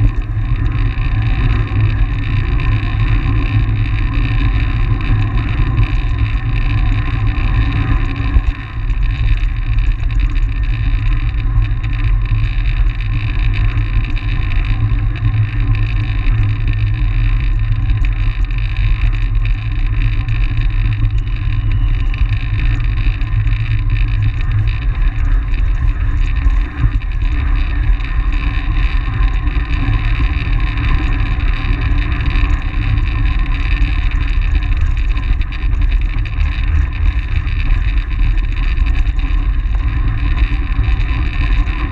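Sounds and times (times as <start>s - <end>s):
steady hum: 0.0s - 41.9s
wind rushing over microphone: 0.0s - 41.9s.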